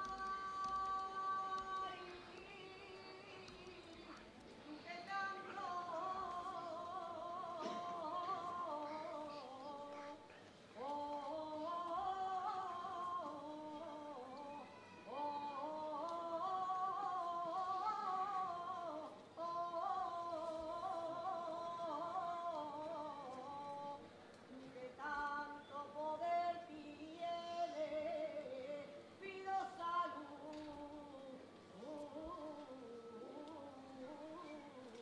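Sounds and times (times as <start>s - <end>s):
person singing unaccompanied: 0.0s - 35.0s.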